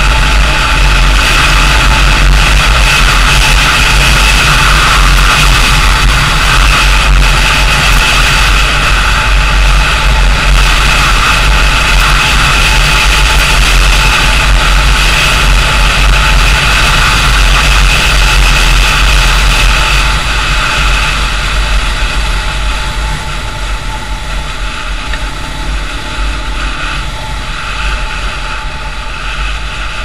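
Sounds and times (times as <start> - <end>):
engine and road noise: 0.0 - 30.0
wind rush on microphone: 0.0 - 30.0.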